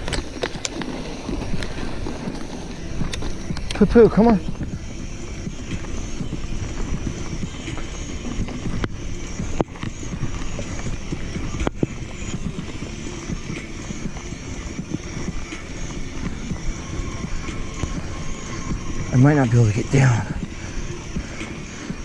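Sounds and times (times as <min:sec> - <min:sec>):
bike rattling and knocking: 0:00.0 - 0:22.0
bike tyre rumble on dirt: 0:00.0 - 0:22.0.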